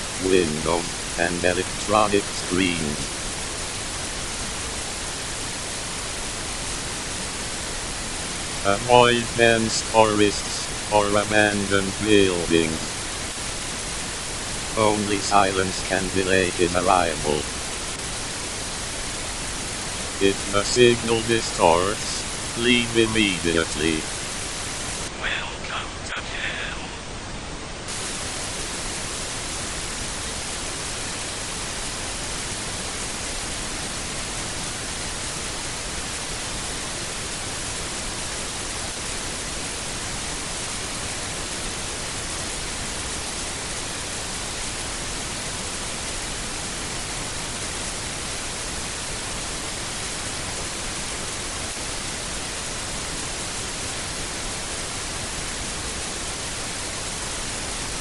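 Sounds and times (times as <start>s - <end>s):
static hiss: 0.0s - 58.0s.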